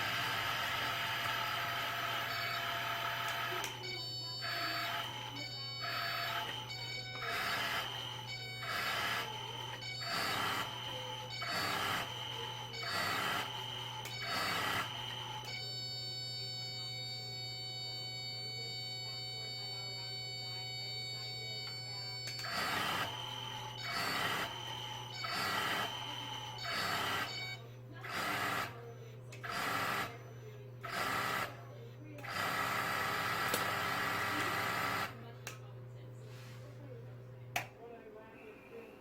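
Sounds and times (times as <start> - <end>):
machine pulsing: 0.0 - 15.9, 18.8 - 35.2.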